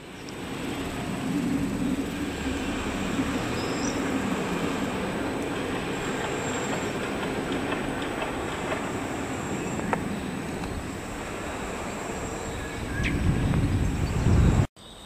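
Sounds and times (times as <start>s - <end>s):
low rumbling background noise: 0.0s - 14.7s.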